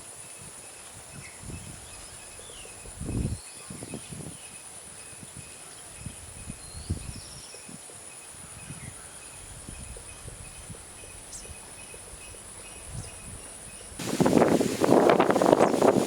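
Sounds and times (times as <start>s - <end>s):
insects droning: 0.0s - 16.0s
wind on microphone: 0.4s - 16.0s.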